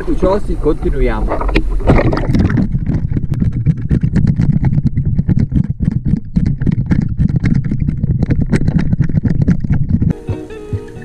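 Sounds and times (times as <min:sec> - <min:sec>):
underwater rumble: 0:00.0 - 0:10.2
underwater crackles and clicks: 0:00.3 - 0:10.2.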